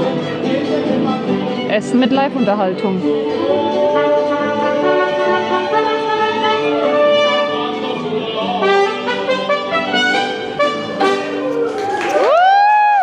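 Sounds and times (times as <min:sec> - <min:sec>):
instrumental music: 0:00.0 - 0:12.2.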